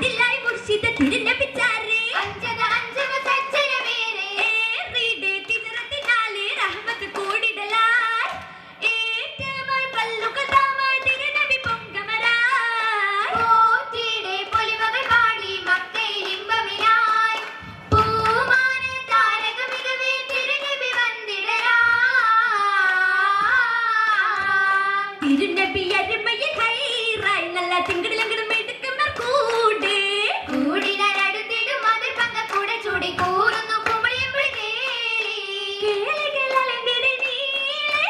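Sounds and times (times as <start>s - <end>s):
girls singing into microphone: 0.0s - 38.0s
sharp handclaps: 0.0s - 38.0s.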